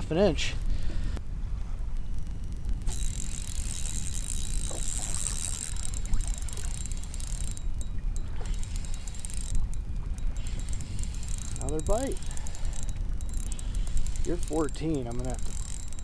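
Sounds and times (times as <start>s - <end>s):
water lapping against kayak hull: 0.3s - 16.0s.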